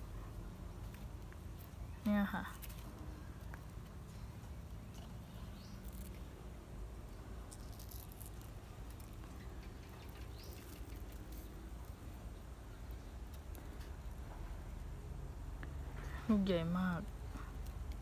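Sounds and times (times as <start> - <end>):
low steady rumble: 0.0 - 18.0
rustling and crackling of leaves: 0.0 - 18.0.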